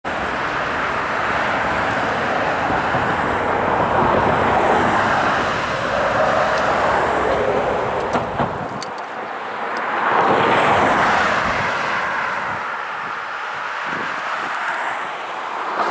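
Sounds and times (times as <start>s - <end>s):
diesel locomotive engine rumble: 0.1s - 14.5s.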